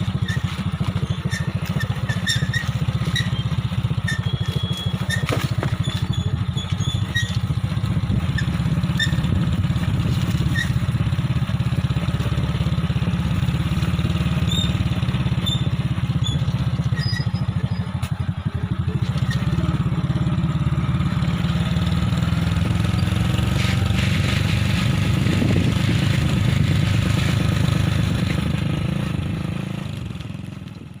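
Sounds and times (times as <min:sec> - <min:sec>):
small motorcycle engine running: 0:00.0 - 0:31.0.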